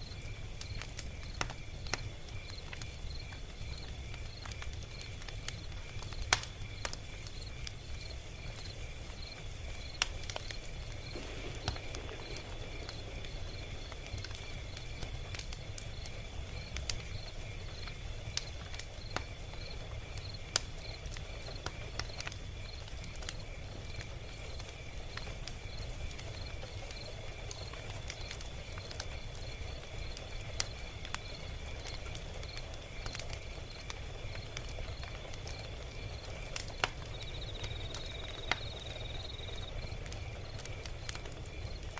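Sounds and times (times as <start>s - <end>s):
log fire crackling and popping: 0.0s - 41.9s
low rumble of burning: 0.0s - 41.9s.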